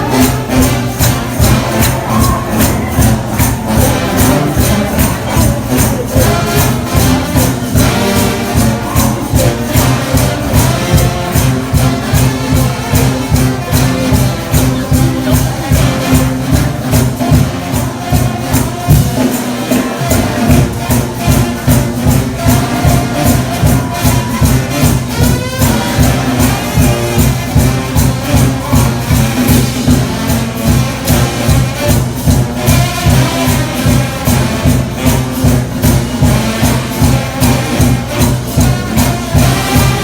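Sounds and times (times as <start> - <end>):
loud church shout music: 0.0 - 40.0.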